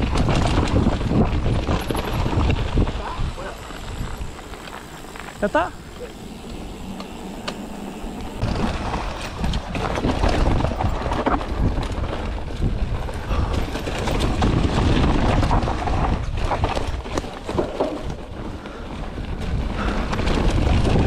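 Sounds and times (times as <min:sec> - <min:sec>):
bike rattles and knocks: 0:00.0 - 0:21.0
bike tyres rolling on dirt: 0:00.0 - 0:21.0.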